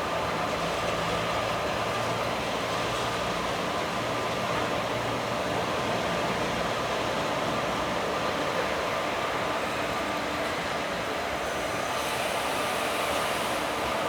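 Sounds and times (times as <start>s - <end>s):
train rumble and hiss: 0.0s - 14.0s.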